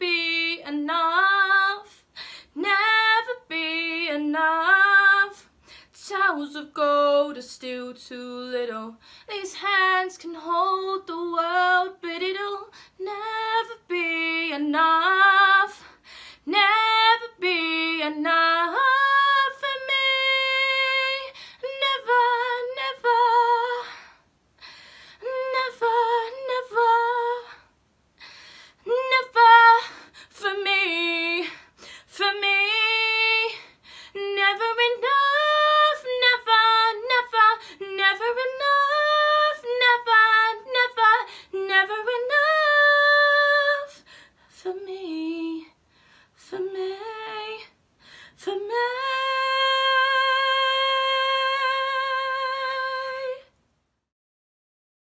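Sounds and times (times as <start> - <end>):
woman singing unaccompanied: 0.0 - 24.0, 25.2 - 27.6, 28.8 - 45.8, 46.4 - 47.8, 48.4 - 53.5.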